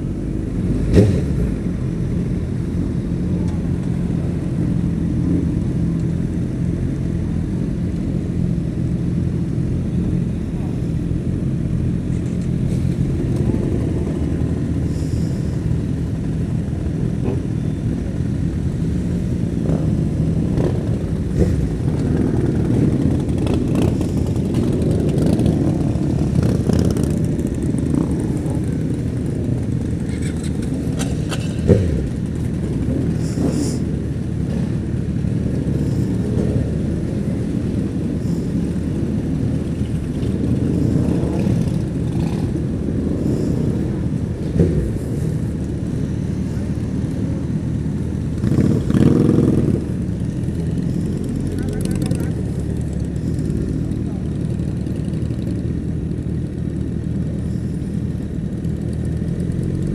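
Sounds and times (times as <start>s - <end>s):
motorcycle engine moving slowly: 0.0s - 59.9s
motorcycles pulling away slowly: 0.0s - 59.9s.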